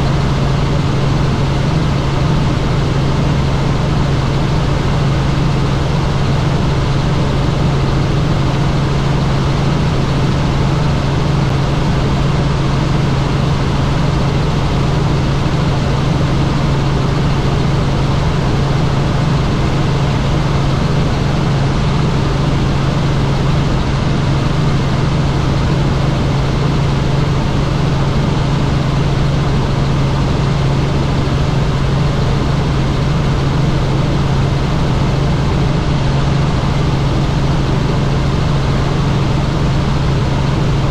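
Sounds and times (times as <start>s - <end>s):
helicopter engine and rotors: 0.0s - 40.9s.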